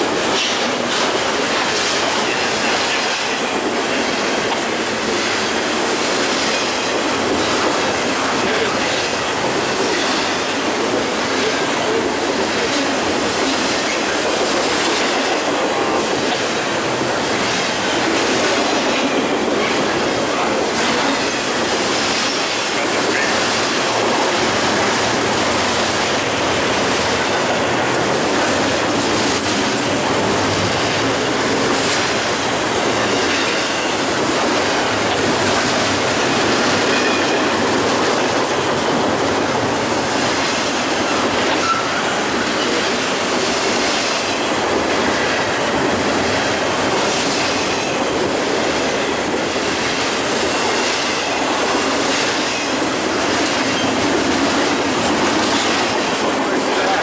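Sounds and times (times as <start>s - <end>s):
freight train wheels on rails: 0.0s - 57.0s
wheels clacking over rail joints: 0.0s - 57.0s.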